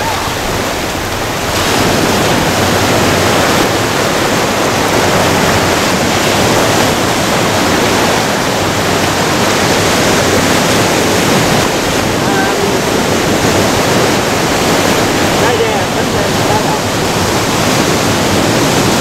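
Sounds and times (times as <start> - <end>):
waves breaking on a beach: 0.0 - 19.0.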